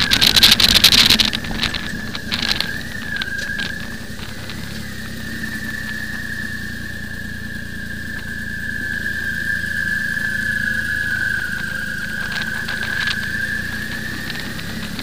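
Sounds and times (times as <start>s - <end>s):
high steady whistle: 0.0s - 15.0s
motorcycle engine running: 0.0s - 15.0s.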